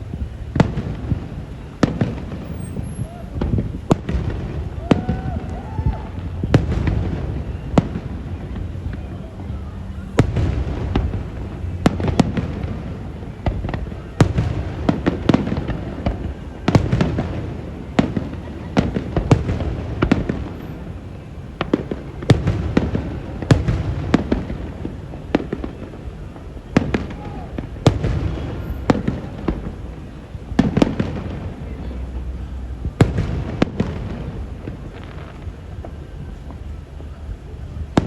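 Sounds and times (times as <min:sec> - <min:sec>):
fireworks bangs and booms: 0:00.0 - 0:38.0.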